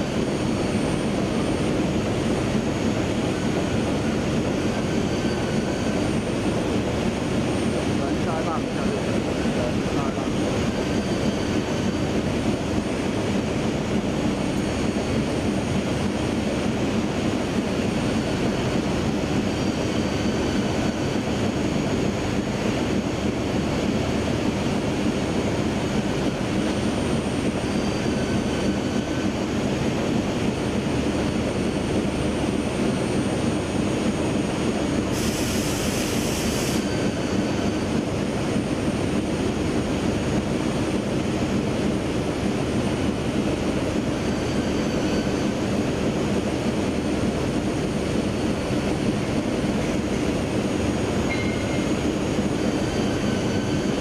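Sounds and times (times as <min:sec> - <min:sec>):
production line machinery running: 0:00.0 - 0:54.0.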